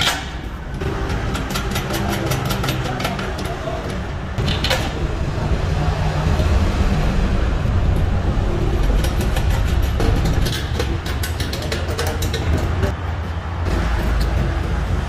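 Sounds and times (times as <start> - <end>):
machinery rumbling and humming: 0.0 - 15.0.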